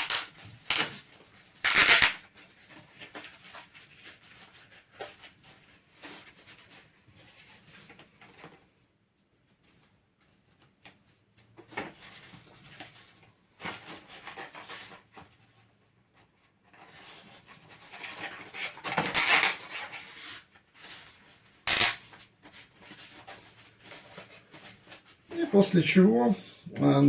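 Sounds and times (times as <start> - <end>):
rustling and rubbing of foam insulation: 2.2 - 25.6.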